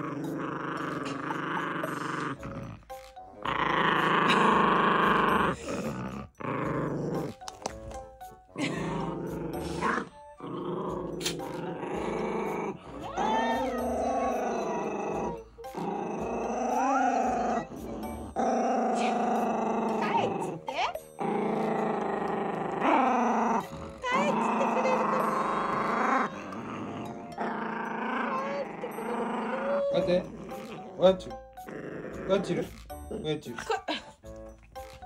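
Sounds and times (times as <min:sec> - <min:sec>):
background music: 0:00.0 - 0:35.0
dog growling: 0:00.0 - 0:35.0.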